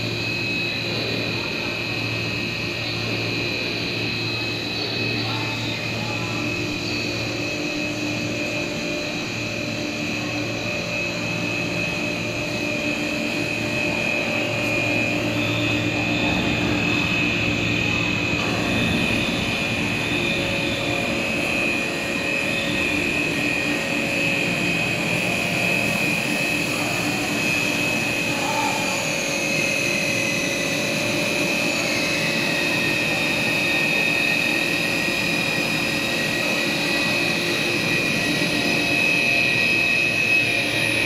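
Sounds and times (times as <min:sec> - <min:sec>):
motors humming with high whine: 0:00.0 - 0:41.0.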